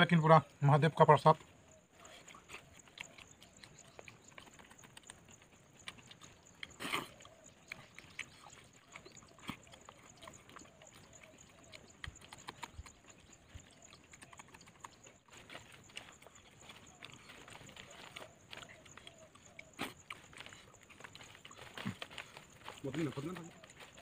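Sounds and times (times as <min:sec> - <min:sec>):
people eating from foil plates: 0:00.0 - 0:24.0.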